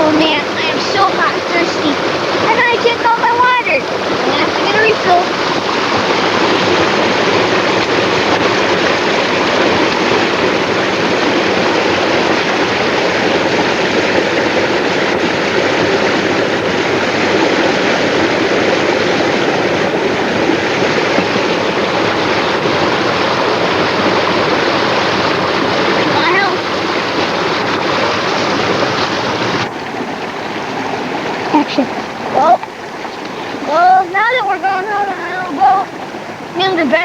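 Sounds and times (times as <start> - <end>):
water rushing over small waterfall: 0.0 - 37.0.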